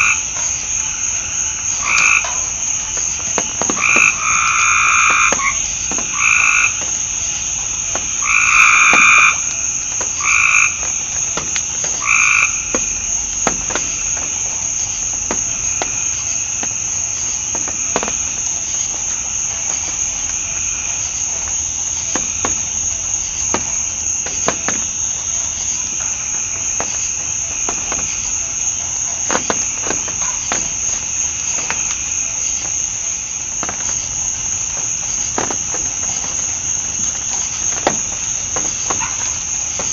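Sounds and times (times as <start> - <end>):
frogs calling: 0.0 - 39.9
night insects droning: 0.0 - 39.9.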